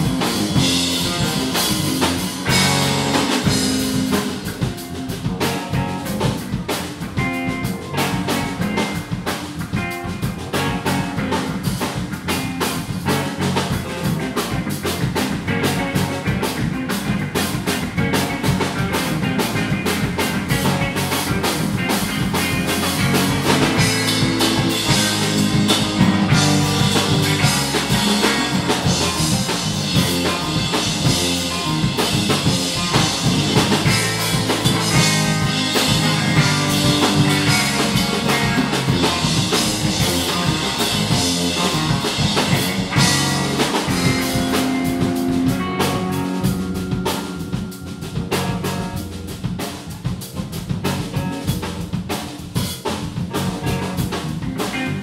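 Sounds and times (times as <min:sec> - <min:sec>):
drum kit steady beat: 0:00.0 - 0:55.0
electric bass: 0:00.0 - 0:55.0
electric guitar: 0:00.0 - 0:55.0
keyboard: 0:00.0 - 0:55.0.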